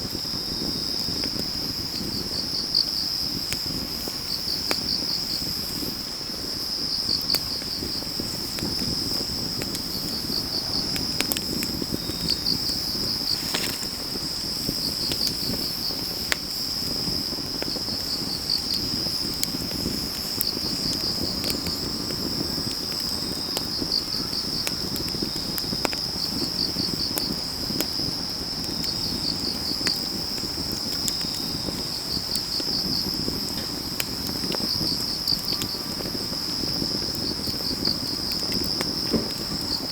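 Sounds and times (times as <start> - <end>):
crickets trilling: 0.0 - 39.9
wood fire crackling: 0.0 - 39.9.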